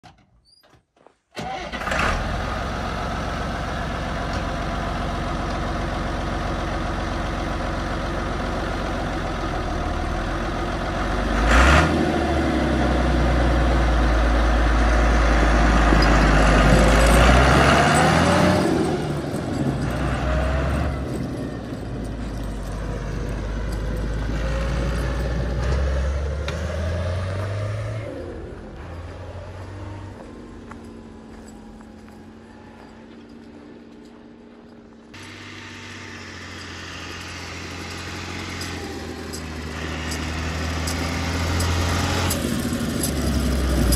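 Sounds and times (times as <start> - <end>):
tractor diesel engine running: 1.4 - 43.9.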